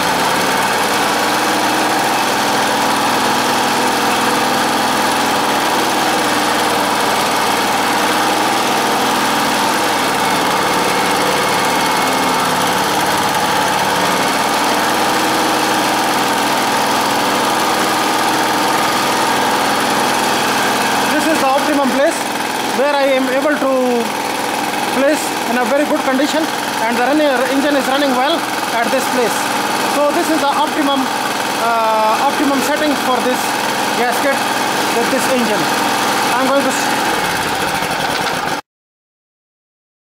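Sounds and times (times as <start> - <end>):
generator engine running: 0.0 - 38.6.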